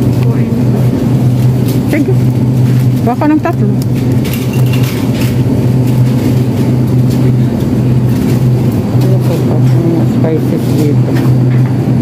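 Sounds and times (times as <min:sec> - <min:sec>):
refrigerator and ventilation hum: 0:00.0 - 0:12.0.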